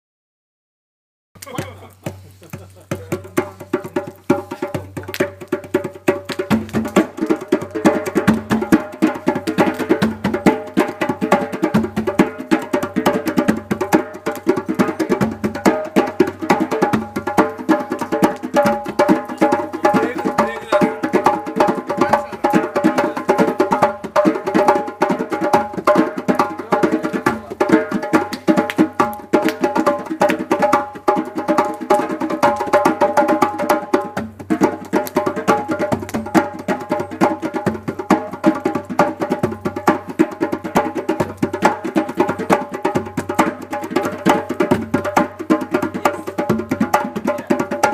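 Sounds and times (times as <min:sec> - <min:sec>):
fast hand percussion: 0:01.4 - 0:47.9.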